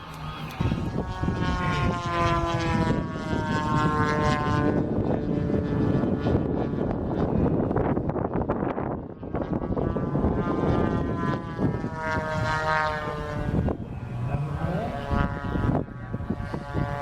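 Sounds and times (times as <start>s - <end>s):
model aircraft motor whining: 0.0s - 17.0s.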